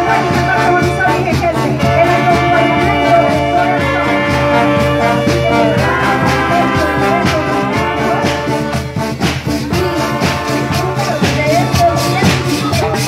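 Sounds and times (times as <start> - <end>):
marching band playing: 0.0 - 13.0
snare drums beat: 0.0 - 13.0.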